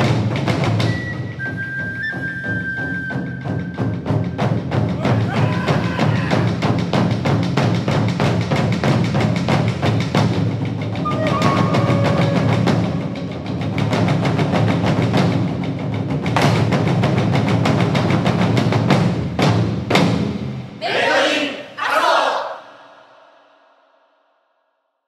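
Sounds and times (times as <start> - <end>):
fast percussion beat: 0.0 - 20.7.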